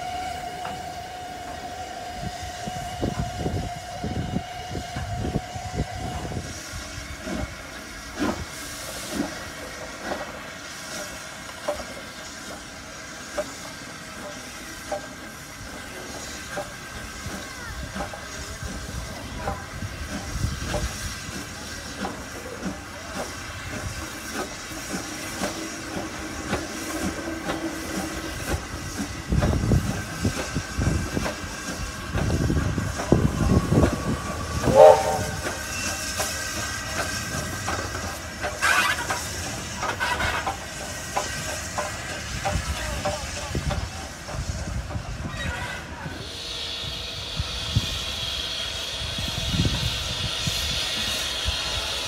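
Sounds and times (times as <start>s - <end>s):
steam hiss: 0.0s - 52.0s
steam locomotive exhaust beats: 0.0s - 52.0s.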